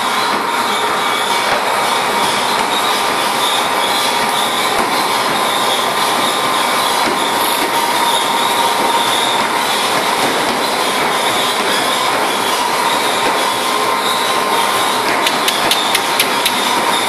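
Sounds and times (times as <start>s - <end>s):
treadmill motor and belt: 0.0s - 17.0s.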